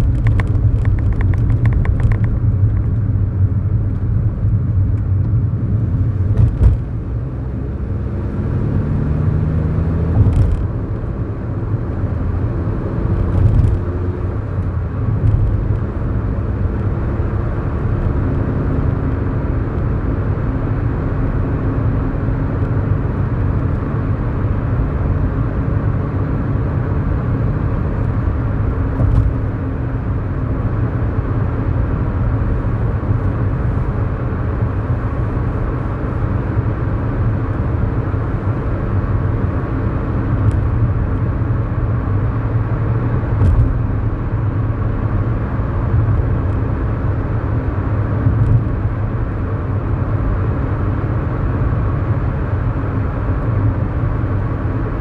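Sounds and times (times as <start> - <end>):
car engine running: 0.0 - 55.0
road and tyre rumble: 0.0 - 55.0.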